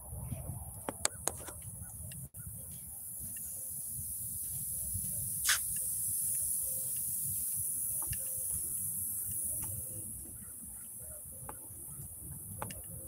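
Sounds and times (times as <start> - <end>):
insects buzzing: 1.1 - 13.0.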